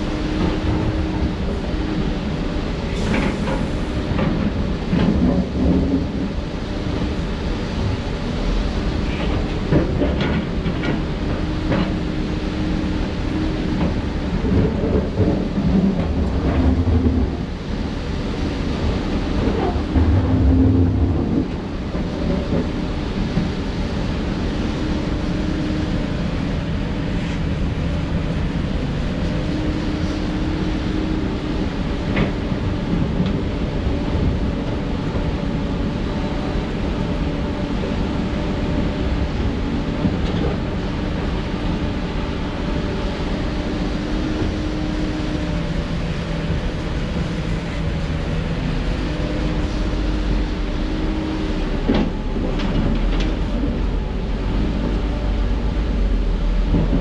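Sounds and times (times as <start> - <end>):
diesel construction machinery running: 0.0 - 57.0.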